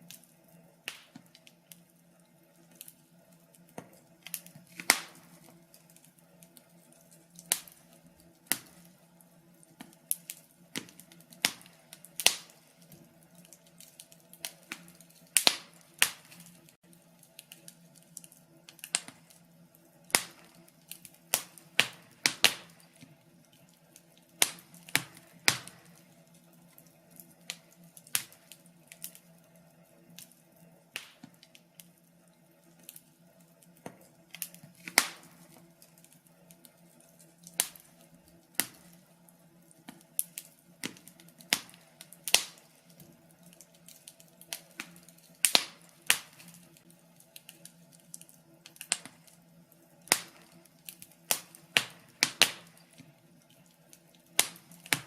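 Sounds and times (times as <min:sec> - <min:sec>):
faint steady hum: 0:00.0 - 0:55.0
wood fire crackling: 0:00.0 - 0:55.0.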